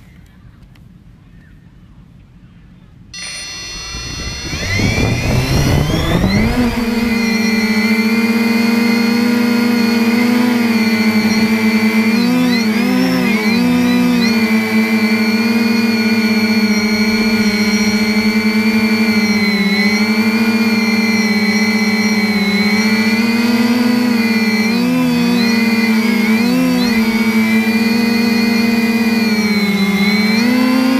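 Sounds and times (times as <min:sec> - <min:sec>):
drone propellers whining: 0:03.2 - 0:30.9.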